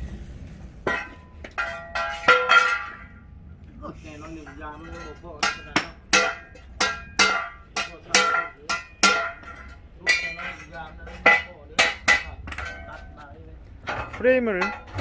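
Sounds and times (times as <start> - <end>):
hammer clanging on steel: 0.8 - 3.2, 4.4 - 13.2, 13.8 - 15.0.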